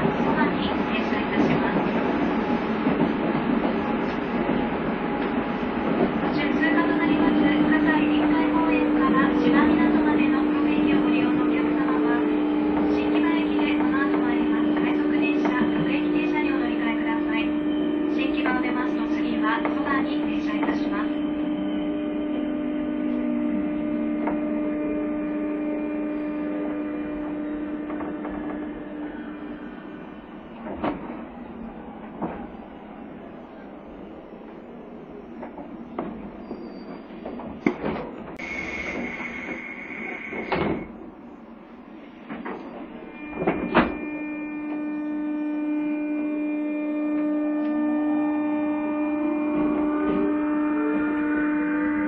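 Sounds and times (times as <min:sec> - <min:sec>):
train hum and running noise: 0:00.0 - 0:52.0.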